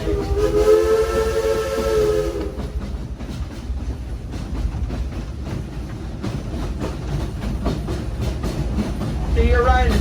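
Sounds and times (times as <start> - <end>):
train cars rumbling on track: 0.0 - 10.0.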